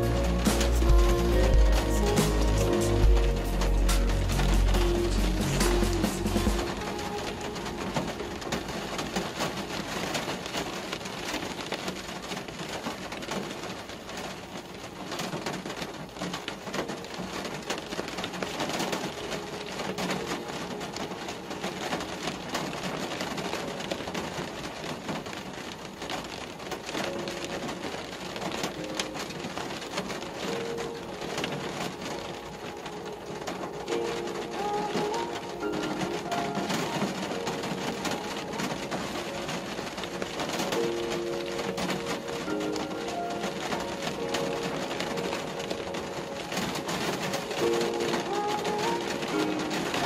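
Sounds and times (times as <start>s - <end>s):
rain falling on a car: 0.0s - 50.0s.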